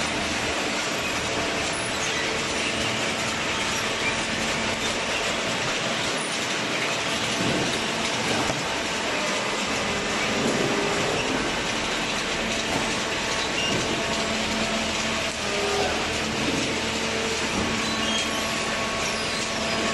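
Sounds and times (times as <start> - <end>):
cardboard baler running: 0.0 - 19.9.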